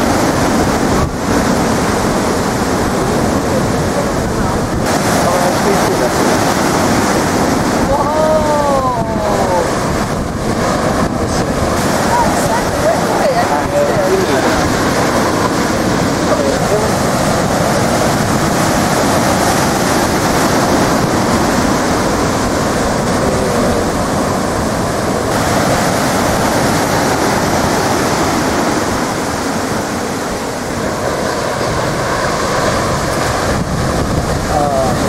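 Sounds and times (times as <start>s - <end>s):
ocean waves breaking: 0.0s - 35.0s.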